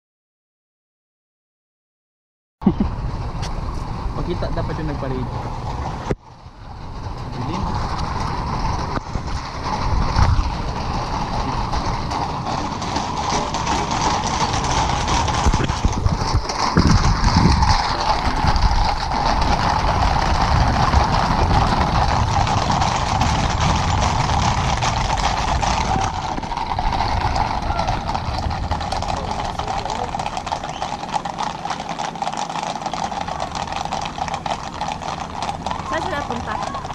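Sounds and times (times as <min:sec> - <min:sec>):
horse hooves on paved road: 0:02.9 - 0:36.9.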